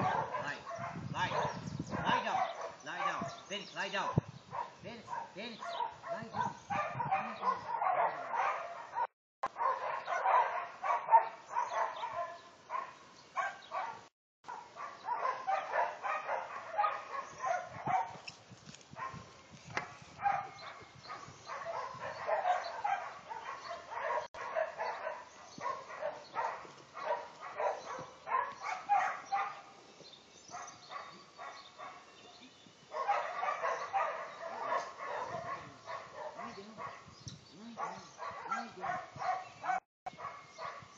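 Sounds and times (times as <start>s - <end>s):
dog barking: 0.0s - 18.2s, 19.0s - 19.2s, 19.8s - 29.8s, 30.5s - 32.2s, 32.9s - 37.1s, 37.7s - 40.9s.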